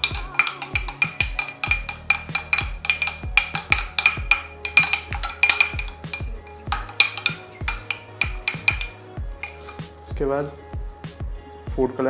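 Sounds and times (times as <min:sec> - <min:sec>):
metal spoon clinking glass: 0:00.0 - 0:09.9
music with deep beat: 0:00.0 - 0:12.0.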